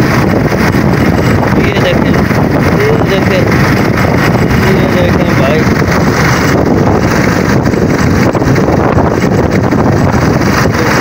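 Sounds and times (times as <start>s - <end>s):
boat engine running: 0.0s - 11.0s
strong wind buffeting microphone: 0.0s - 11.0s.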